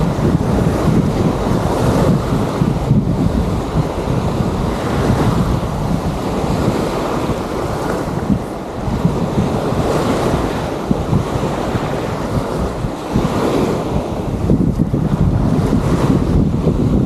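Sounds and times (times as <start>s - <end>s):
surf washing on sandy shore: 0.0s - 17.0s
wind buffeting microphone: 0.0s - 17.0s.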